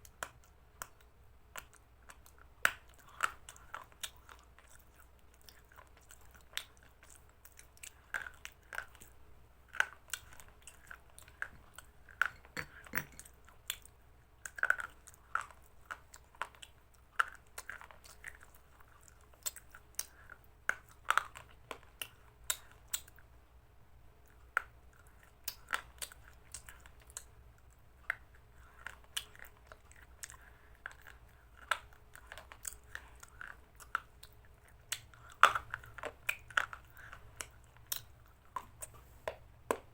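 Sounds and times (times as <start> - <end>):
person chewing and crunching food: 0.0 - 23.3, 24.2 - 39.9.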